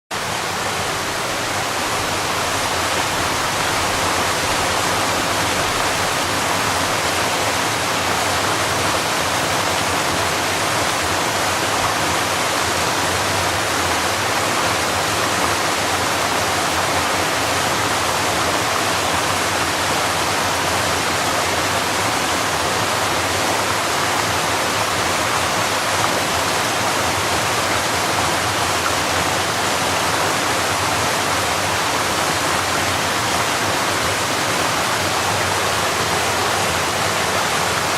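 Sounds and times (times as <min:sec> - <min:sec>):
creek water rushing over stones: 0:00.1 - 0:37.9.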